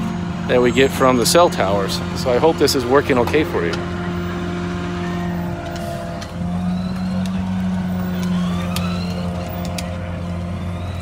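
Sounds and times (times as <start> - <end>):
garbage truck engine humming: 0.0 - 11.0.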